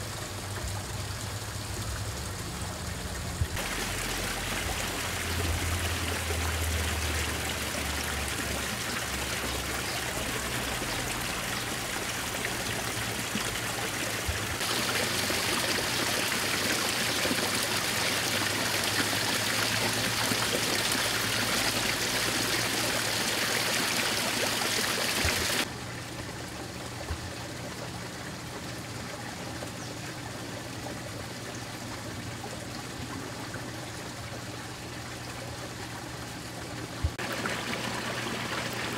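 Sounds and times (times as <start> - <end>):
water trickling into a pond: 0.0 - 38.9.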